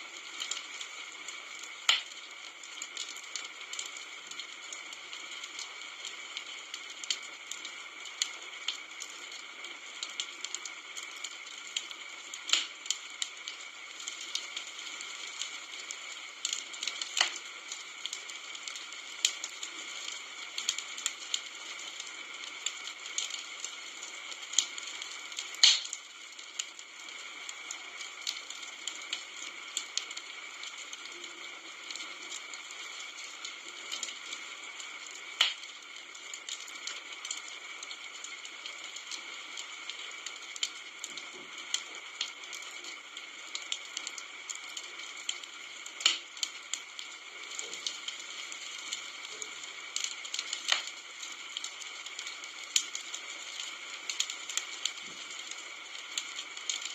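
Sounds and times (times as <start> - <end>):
campfire crackling: 0.0 - 56.9
fire popping: 0.0 - 56.9.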